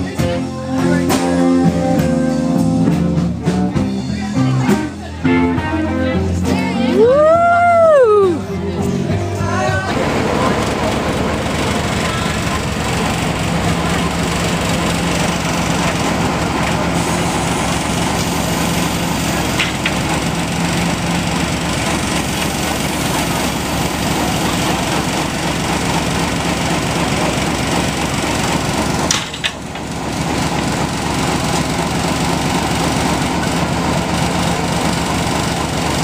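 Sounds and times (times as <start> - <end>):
locomotive engine running: 0.0 - 36.0.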